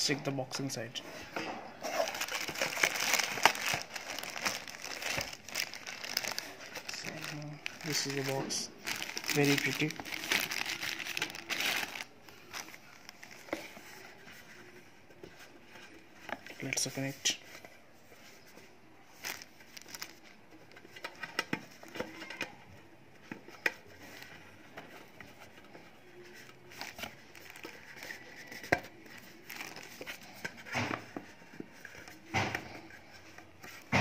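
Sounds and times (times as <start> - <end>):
hands handling small box: 1.8 - 33.9.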